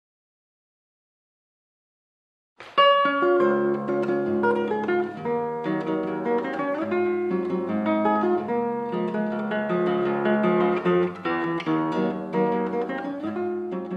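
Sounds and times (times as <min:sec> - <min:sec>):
acoustic guitar music: 0:02.6 - 0:13.9.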